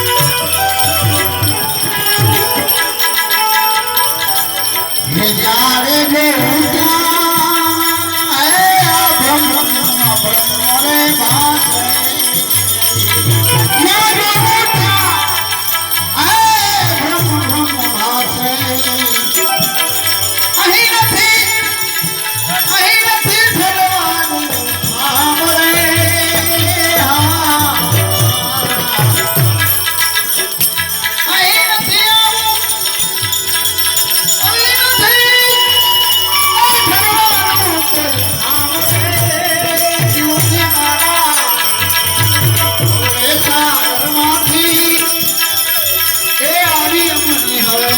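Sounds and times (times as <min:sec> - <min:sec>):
tabla beat: 0:00.0 - 0:47.9.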